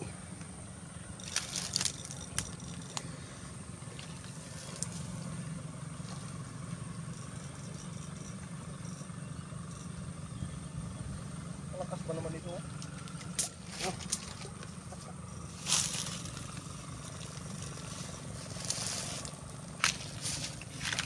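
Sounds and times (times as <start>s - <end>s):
electrofishing rig buzzing: 0.0s - 21.0s
faint high whine: 0.0s - 21.0s.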